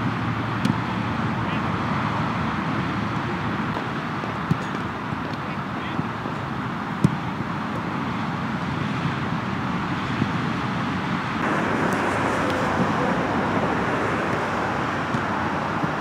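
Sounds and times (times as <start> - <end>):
road traffic hiss: 0.0 - 16.0.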